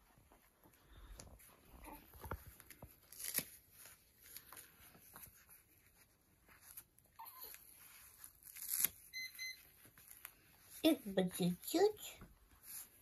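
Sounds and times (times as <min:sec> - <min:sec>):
rustling of baby clothes: 0:00.0 - 0:13.0.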